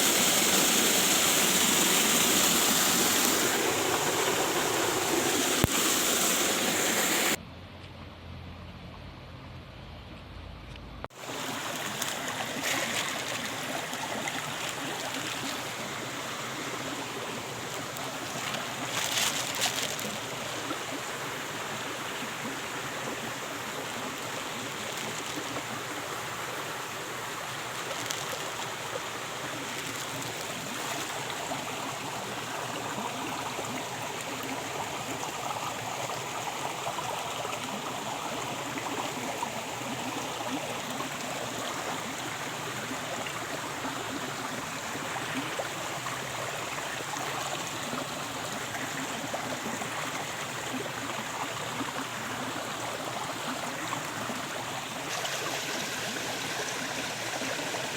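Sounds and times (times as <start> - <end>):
stream water rushing: 0.0 - 7.4, 11.1 - 57.9.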